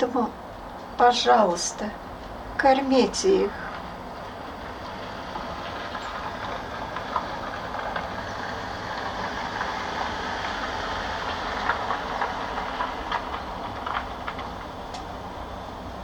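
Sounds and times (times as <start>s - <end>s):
passing vehicle rumble: 0.0s - 16.0s.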